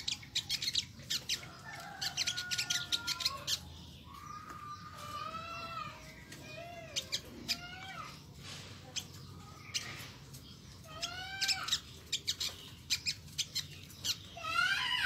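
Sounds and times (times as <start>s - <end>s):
bird chipping: 0.0s - 15.0s.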